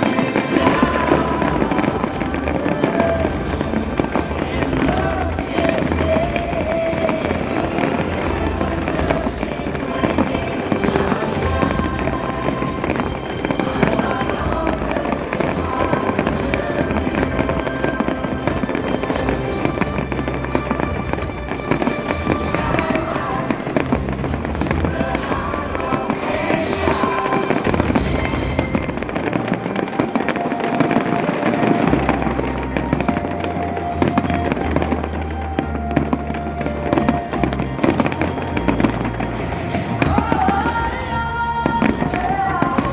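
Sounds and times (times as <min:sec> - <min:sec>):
fireworks bursting and crackling: 0:00.0 - 0:42.9
music: 0:00.0 - 0:42.9.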